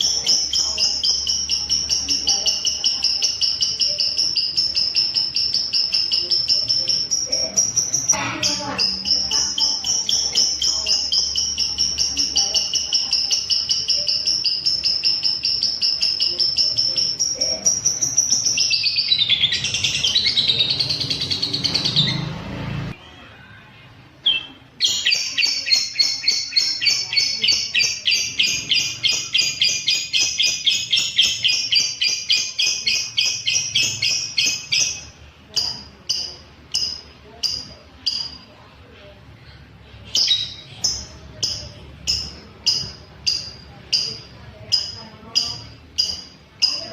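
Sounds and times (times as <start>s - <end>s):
bird chattering in fast trill: 0.0s - 22.3s, 24.2s - 38.6s, 40.1s - 46.9s.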